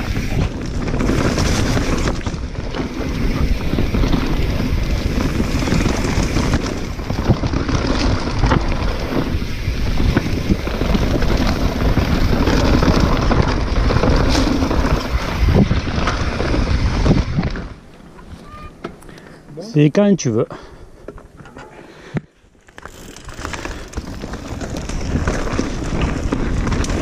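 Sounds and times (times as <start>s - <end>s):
wind buffeting camera: 0.0s - 18.8s, 22.9s - 27.0s
bike rattling and knocking: 0.0s - 19.0s, 22.7s - 27.0s
tyres on dirt: 0.0s - 20.4s, 21.0s - 27.0s.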